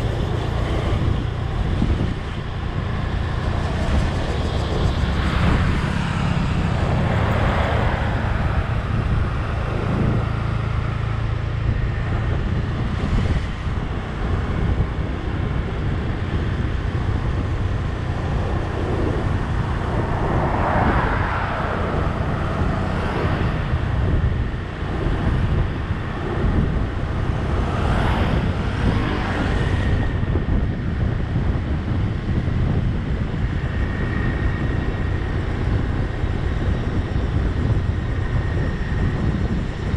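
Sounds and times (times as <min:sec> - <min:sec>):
vehicle engine and road rumble: 0:00.0 - 0:39.9
wind on microphone: 0:00.0 - 0:39.9.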